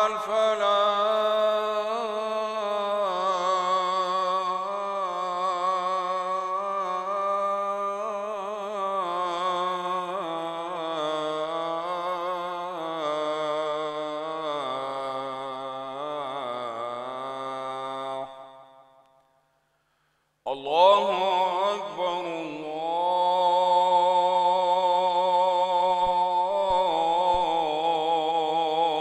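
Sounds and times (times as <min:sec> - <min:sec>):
man chanting call to prayer: 0:00.0 - 0:18.6, 0:20.5 - 0:29.0.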